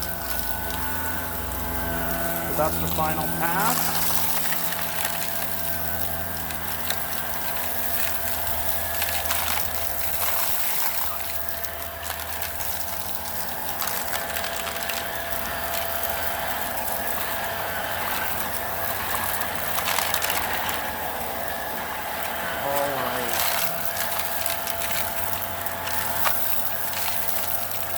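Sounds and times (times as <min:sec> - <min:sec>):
debris rattling being sucked up: 0:00.0 - 0:27.9
vacuum cleaner running: 0:00.0 - 0:27.9.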